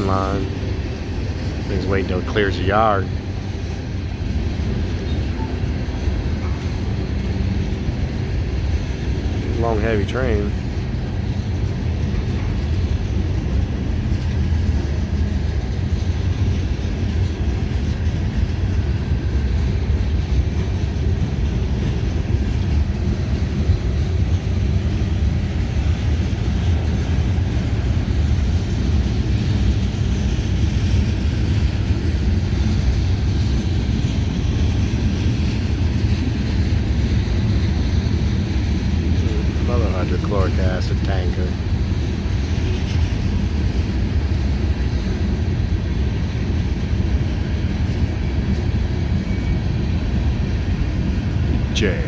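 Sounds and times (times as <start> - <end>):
freight train wheels on rails: 0.0 - 52.0.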